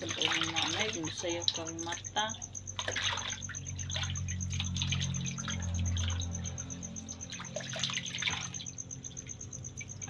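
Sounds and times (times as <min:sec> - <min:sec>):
cricket chirping: 0:00.0 - 0:10.0
steady low hum: 0:00.0 - 0:10.0
water splashing in plastic basin: 0:00.0 - 0:10.0.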